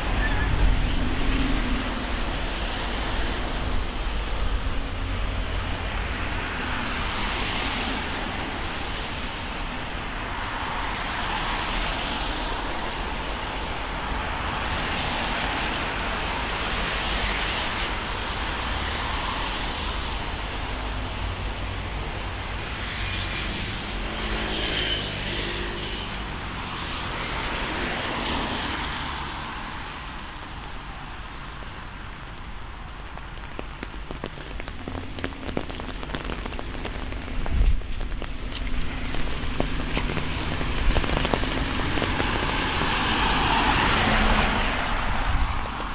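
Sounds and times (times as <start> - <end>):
low traffic rumble: 0.0 - 45.9
tyres hissing on wet road: 0.0 - 45.9.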